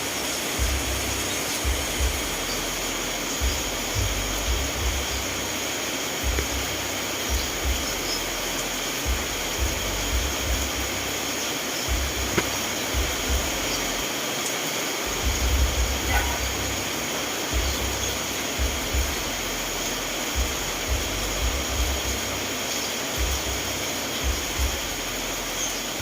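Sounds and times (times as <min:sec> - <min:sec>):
low rumbles: 0:00.0 - 0:14.0, 0:15.1 - 0:22.4
steady rainfall: 0:00.0 - 0:26.0.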